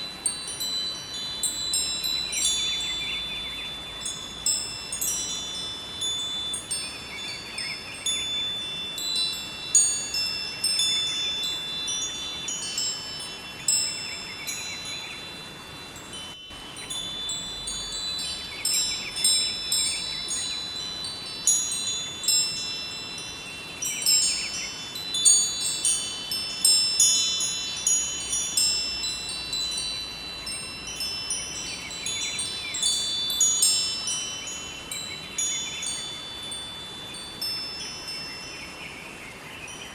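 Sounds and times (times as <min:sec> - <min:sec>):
river flowing: 0:00.0 - 0:39.8
wind chimes ringing: 0:00.0 - 0:39.9.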